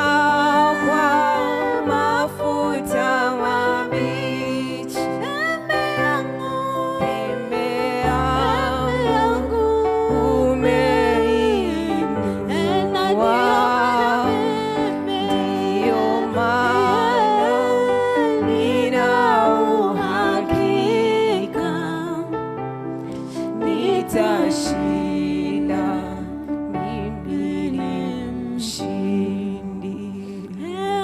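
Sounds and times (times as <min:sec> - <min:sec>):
person singing: 0:00.0 - 0:31.0
sustained gospel accompaniment: 0:00.0 - 0:31.0.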